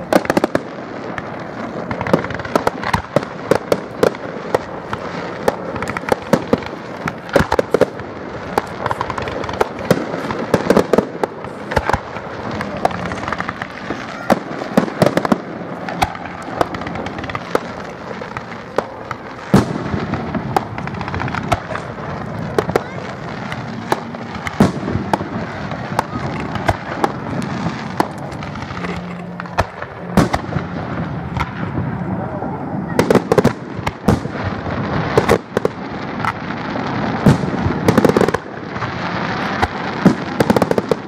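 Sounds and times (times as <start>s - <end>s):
fireworks boom: 0.0s - 38.6s
fireworks bursting: 0.0s - 41.0s.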